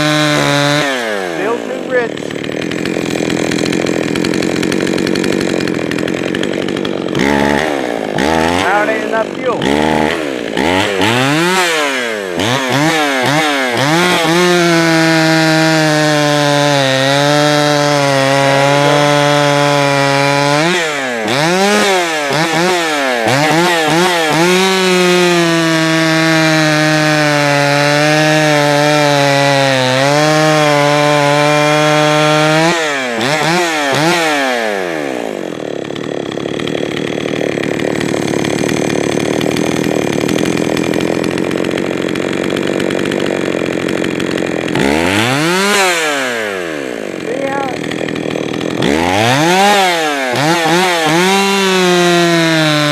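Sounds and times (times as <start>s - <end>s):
chainsaw revving: 0.0s - 52.9s.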